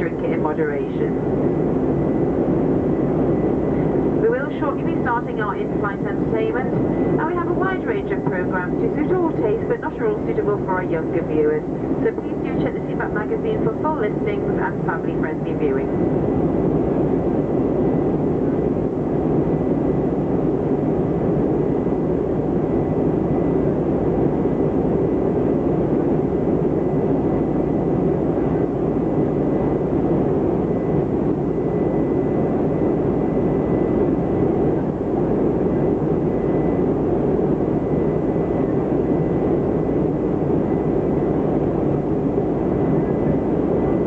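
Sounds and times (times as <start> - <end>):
aircraft cabin engine hum: 0.0 - 44.0.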